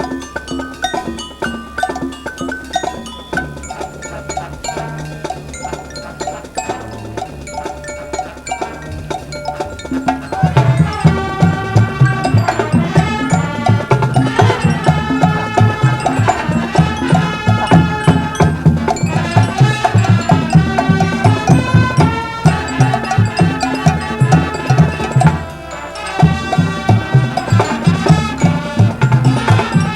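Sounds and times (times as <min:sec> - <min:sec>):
marching band playing: 0:00.0 - 0:29.9.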